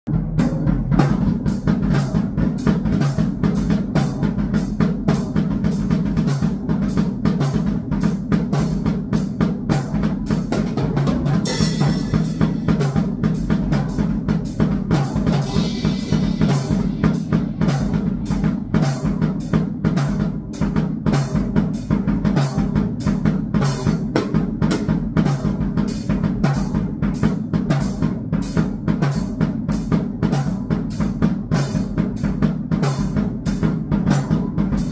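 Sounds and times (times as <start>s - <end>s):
drum kit fast beat: 0.0s - 34.9s.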